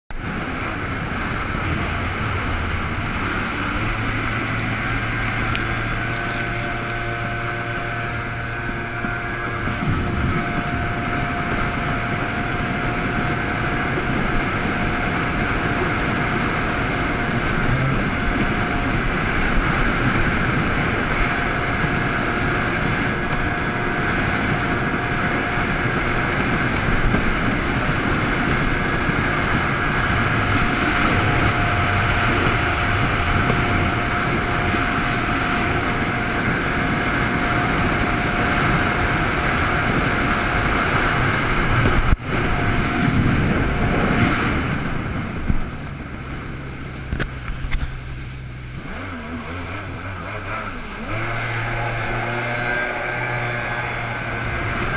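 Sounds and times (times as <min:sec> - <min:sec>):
jet ski engine: 0:00.1 - 0:54.9
water rushing against hull: 0:00.1 - 0:54.9
wind on microphone: 0:00.1 - 0:54.9.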